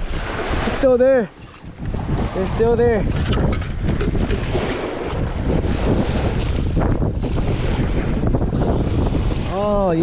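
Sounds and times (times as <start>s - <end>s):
boat noise: 0.0s - 10.0s
water: 0.0s - 10.0s
wind buffeting microphone: 0.0s - 10.0s.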